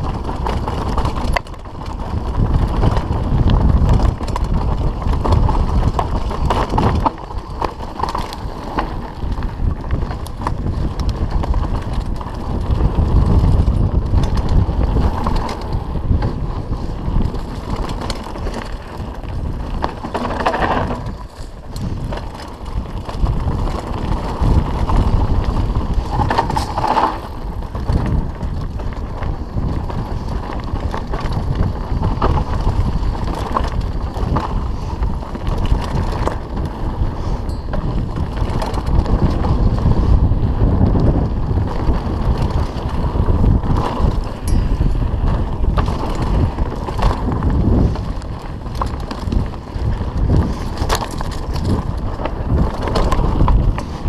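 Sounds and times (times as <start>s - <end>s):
bike rattling over bumps: 0.0s - 54.0s
bike tyres rumbling on dirt: 0.0s - 54.0s
wind buffeting microphone: 0.0s - 54.0s.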